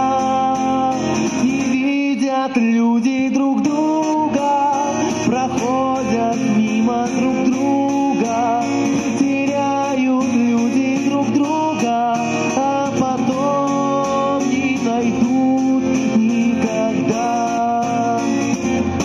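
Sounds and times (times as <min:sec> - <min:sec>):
acoustic guitar strumming: 0:00.0 - 0:19.0
man singing: 0:00.0 - 0:19.0.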